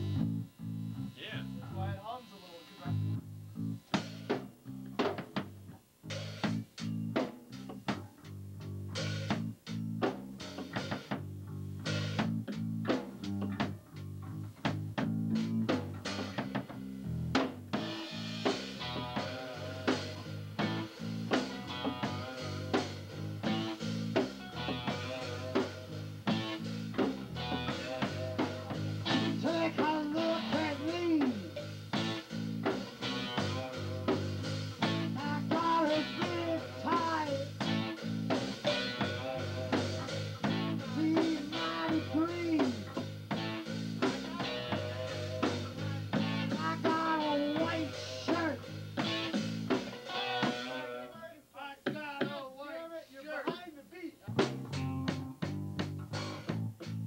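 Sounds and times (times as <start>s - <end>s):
rock band playing: 0.0s - 1.8s, 2.8s - 51.1s, 54.3s - 57.0s
bass guitar: 0.0s - 2.1s, 2.8s - 51.1s, 54.3s - 57.0s
drum kit steady beat: 0.0s - 51.1s, 51.8s - 52.6s, 53.3s - 57.0s
electric guitar: 2.7s - 51.1s.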